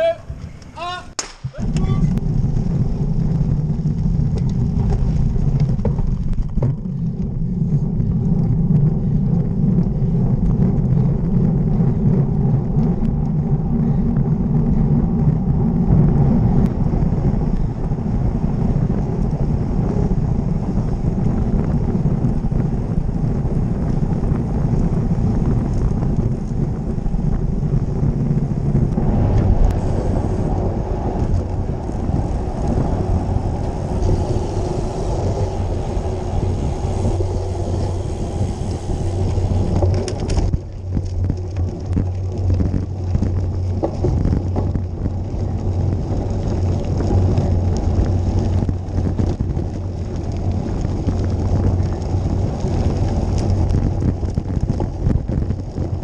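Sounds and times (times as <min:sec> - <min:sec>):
low motor rumble: 0:00.0 - 0:56.0.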